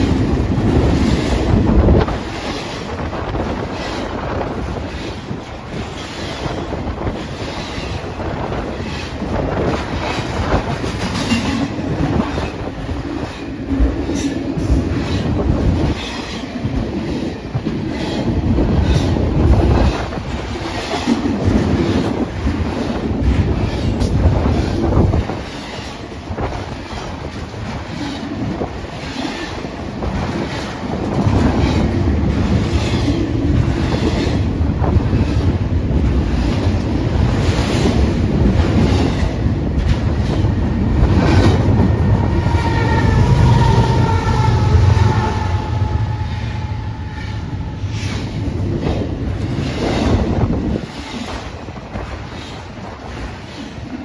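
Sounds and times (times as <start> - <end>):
wheels clacking over rail joints: 0.0 - 46.8
freight train passing: 0.0 - 54.0.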